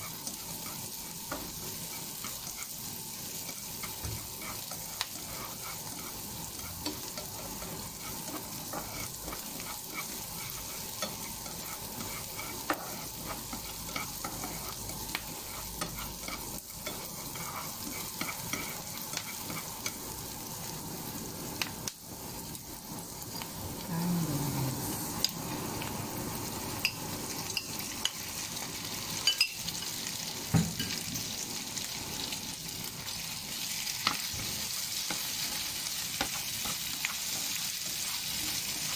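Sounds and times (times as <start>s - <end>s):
onion sizzling in hot oil: 0.0s - 38.9s.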